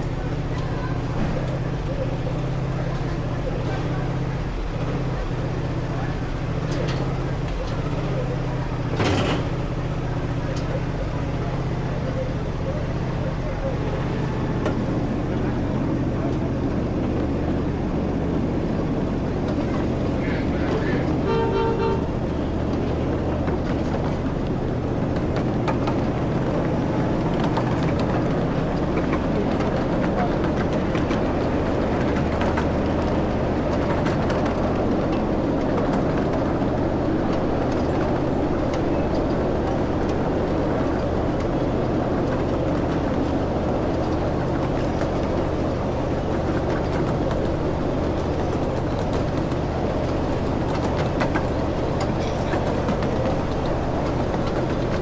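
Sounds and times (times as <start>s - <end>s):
ride train engine drone: 0.0s - 55.0s
train cars rumbling and rattling: 0.0s - 55.0s.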